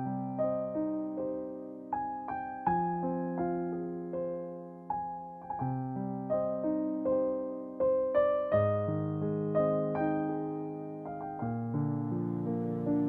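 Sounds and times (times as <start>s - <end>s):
slow gentle piano: 0.0s - 13.0s.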